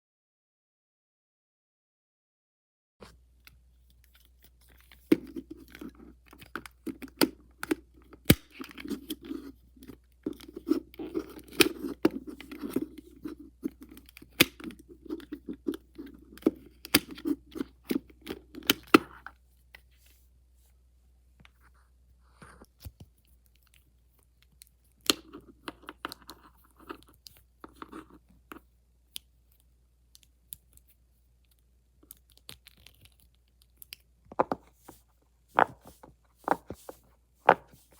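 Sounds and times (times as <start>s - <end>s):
fidget toys crinkling and clicking: 3.4s - 19.9s, 22.5s - 37.9s.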